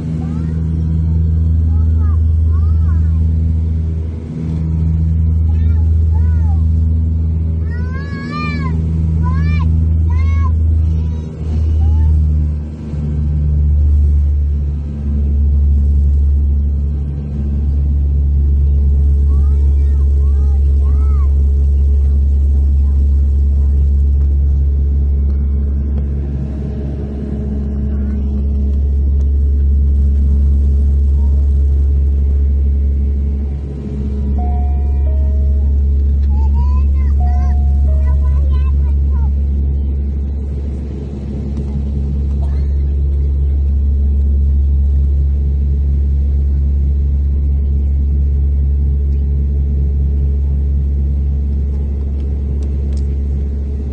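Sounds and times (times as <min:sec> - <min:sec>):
propeller plane cabin drone: 0:00.0 - 0:53.9.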